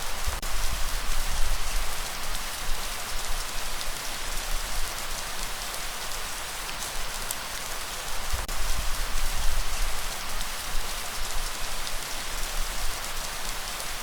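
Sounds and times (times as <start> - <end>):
rain falling on a surface: 0.0 - 14.0.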